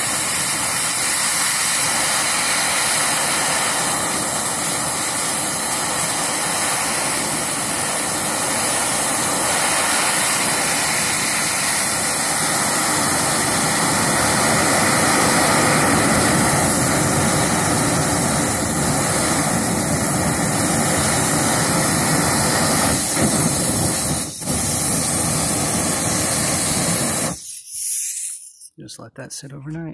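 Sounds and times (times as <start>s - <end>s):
compressed air hissing roar: 0.0s - 28.7s.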